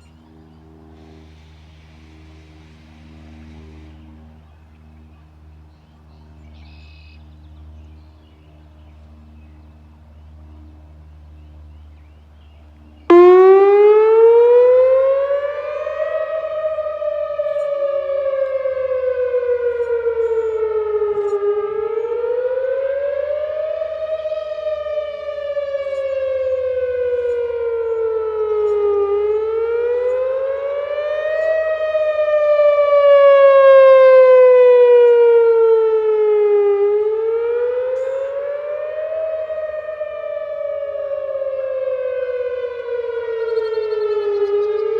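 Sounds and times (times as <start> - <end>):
warning siren wailing: 0.0 - 44.9.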